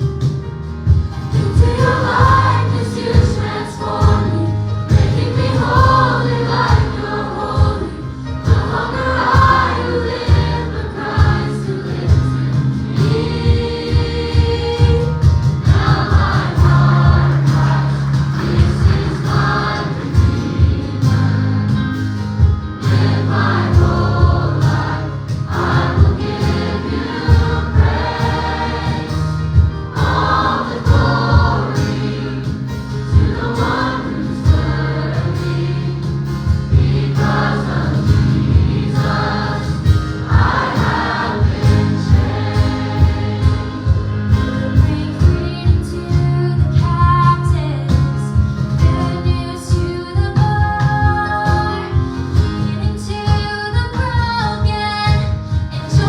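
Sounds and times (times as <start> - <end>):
gospel choir singing: 0.0 - 45.9, 48.0 - 49.8
band playing: 0.0 - 52.5.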